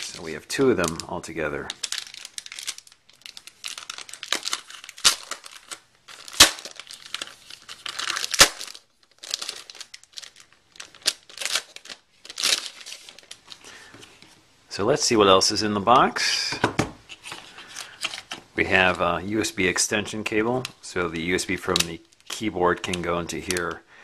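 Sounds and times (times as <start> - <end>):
plastic film crinkling: 0.0 - 14.4, 17.1 - 23.8.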